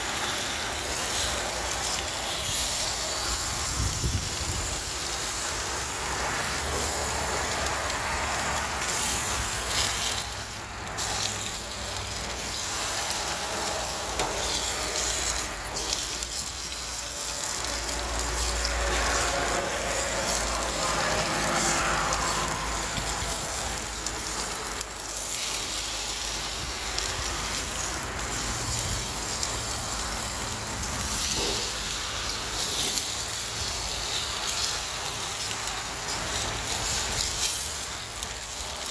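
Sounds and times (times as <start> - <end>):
steak sizzling on a grill: 0.0 - 38.9.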